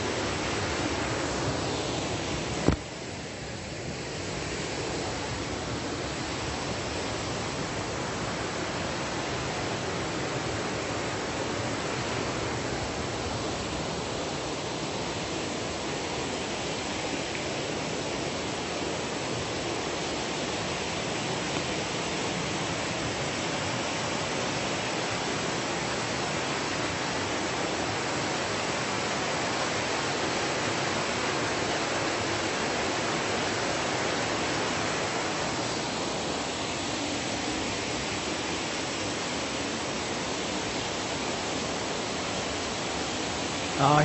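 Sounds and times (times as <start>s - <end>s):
waterfall crashing: 0.0s - 44.0s.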